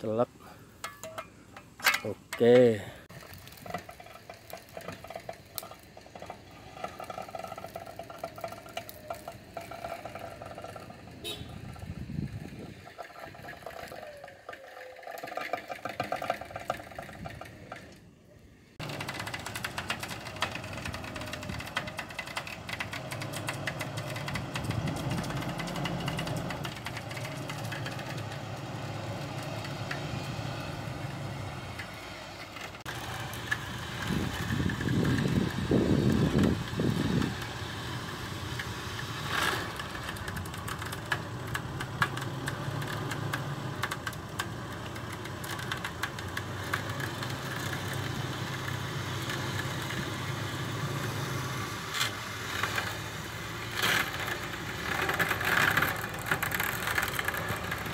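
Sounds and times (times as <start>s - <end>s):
engine running under load: 0.4s - 57.9s.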